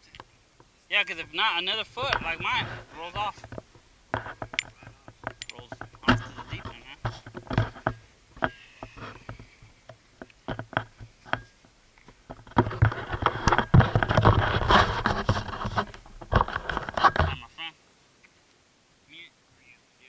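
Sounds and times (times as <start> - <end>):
microphone handling clicks and knocks: 0.0 - 17.5
dense rustling and scraping: 0.8 - 17.6.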